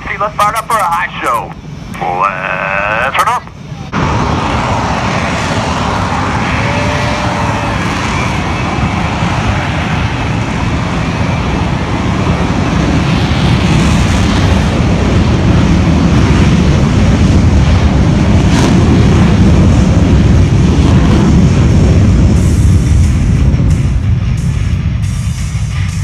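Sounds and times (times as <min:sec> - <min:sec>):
jet noise: 0:00.0 - 0:26.0.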